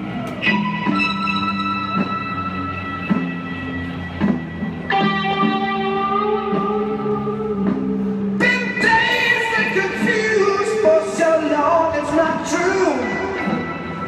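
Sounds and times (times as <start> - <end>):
loud music with bass line: 0.0 - 14.0.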